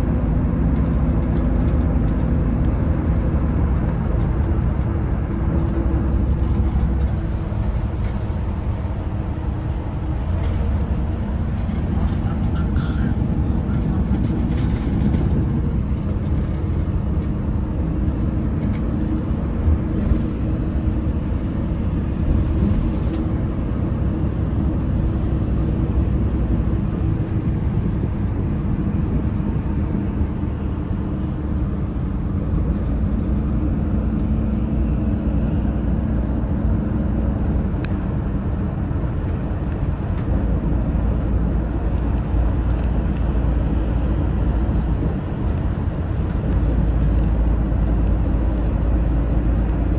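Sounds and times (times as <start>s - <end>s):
bus engine running: 0.0s - 49.9s
road rumble: 0.0s - 49.9s.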